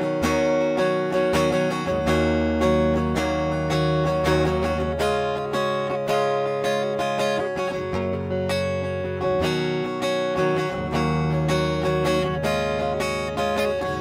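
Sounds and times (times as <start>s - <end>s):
clean electric guitar chords: 0.0s - 14.0s.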